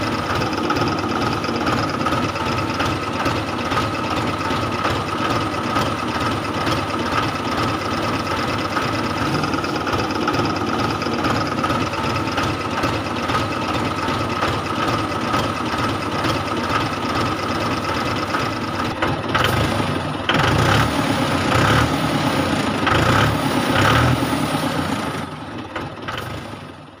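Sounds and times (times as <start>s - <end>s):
tractor engine running with whine: 0.0s - 27.0s.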